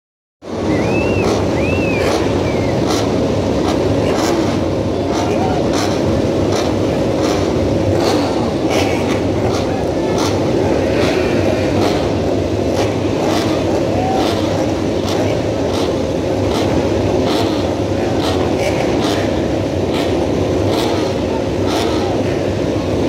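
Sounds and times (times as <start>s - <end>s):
motorcycle engines revving: 0.4s - 23.0s.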